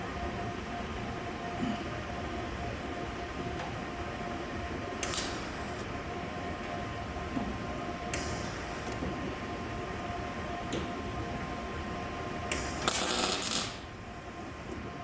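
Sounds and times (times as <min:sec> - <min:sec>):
mechanical hum with whine: 0:00.0 - 0:15.0.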